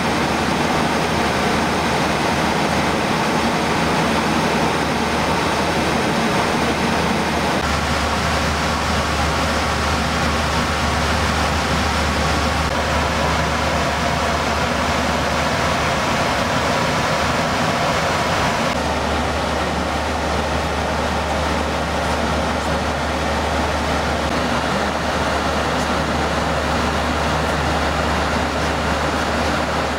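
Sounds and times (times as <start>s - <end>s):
airflow and air conditioning rush: 0.0s - 29.9s.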